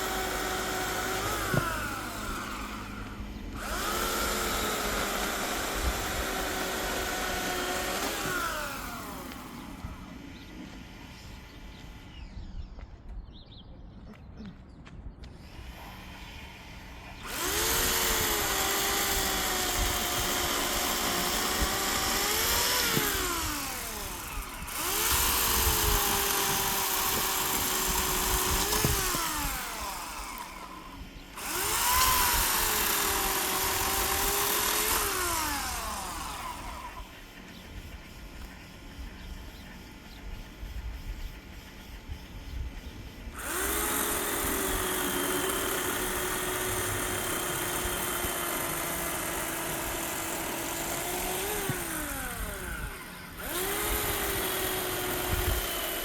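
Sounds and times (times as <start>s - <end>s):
electric chainsaw cutting wood: 0.0s - 12.2s, 15.3s - 37.6s, 43.2s - 56.0s.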